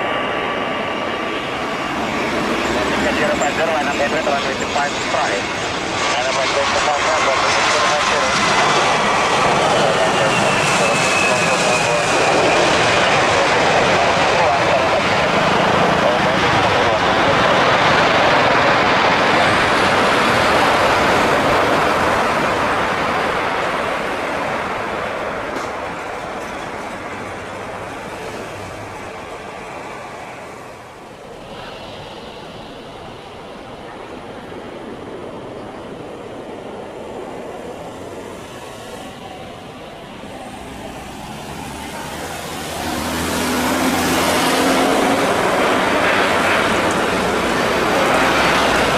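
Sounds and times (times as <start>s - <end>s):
jet airliner roar: 0.0s - 48.9s.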